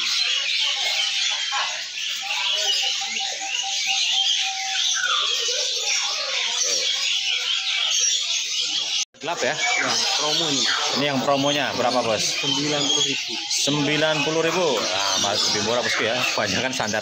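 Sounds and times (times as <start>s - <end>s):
faint voices: 0.0s - 17.0s
small songbirds chirping: 0.0s - 17.0s.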